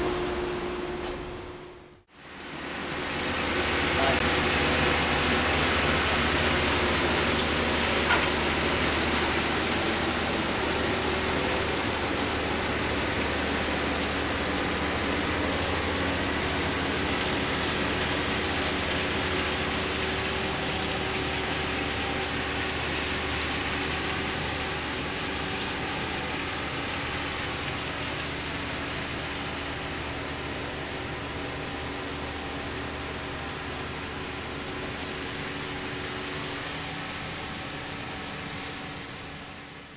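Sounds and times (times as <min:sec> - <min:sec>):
rail machine engine running: 0:00.0 - 0:39.9.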